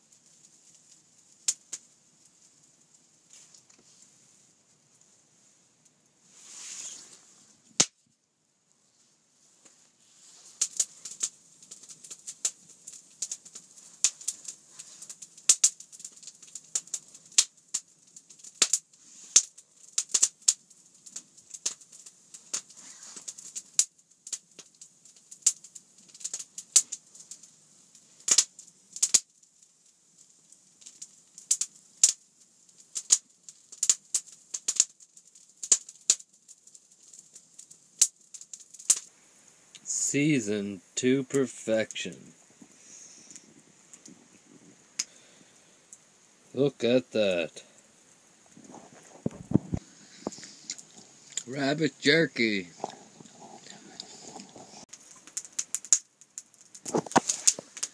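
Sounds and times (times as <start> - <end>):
faint hiss: 0.0 - 57.9
wood fire crackling and popping: 0.0 - 57.9.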